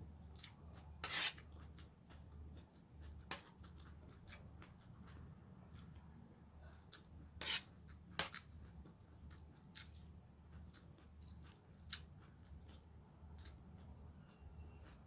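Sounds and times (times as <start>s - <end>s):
chewing salad crunching: 0.2s - 15.0s.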